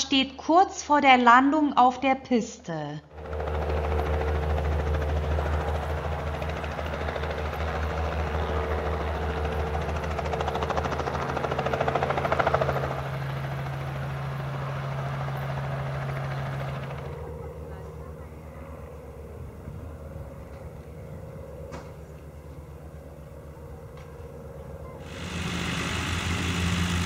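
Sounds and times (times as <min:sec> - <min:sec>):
helicopter rotor drone: 0:03.0 - 0:27.0.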